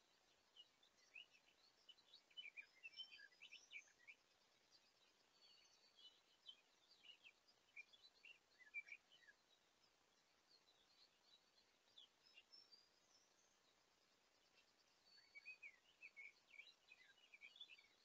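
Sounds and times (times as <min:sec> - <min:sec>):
background hiss: 0:00.0 - 0:18.0
songbird chirps: 0:00.0 - 0:18.0.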